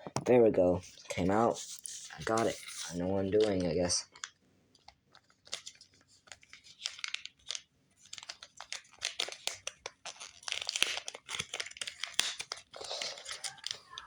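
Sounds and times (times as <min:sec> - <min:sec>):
crinkly rustling: 0:00.6 - 0:14.0.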